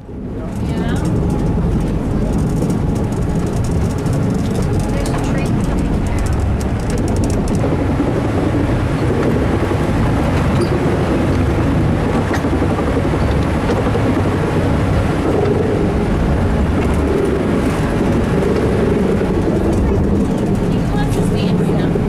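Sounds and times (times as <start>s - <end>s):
cog railway train rumbling: 0.0s - 22.0s.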